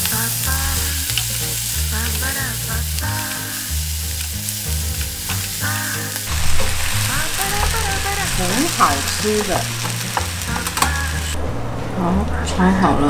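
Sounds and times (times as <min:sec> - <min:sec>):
noodles sizzling in a wok: 0:00.0 - 0:11.4.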